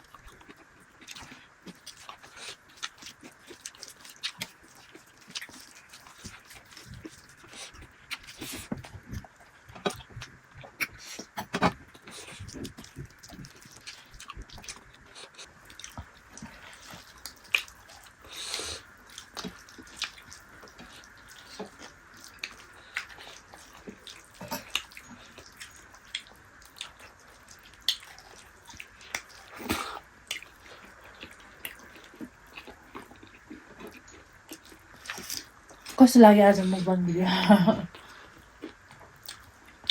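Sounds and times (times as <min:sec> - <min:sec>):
chewing mouth clicks and smacks: 0:00.0 - 0:18.1, 0:19.1 - 0:35.9, 0:38.0 - 0:39.9.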